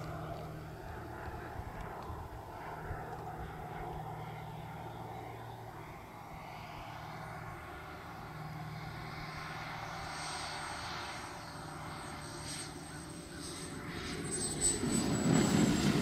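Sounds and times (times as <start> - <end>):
model jet turbine whine: 0.0 - 16.0.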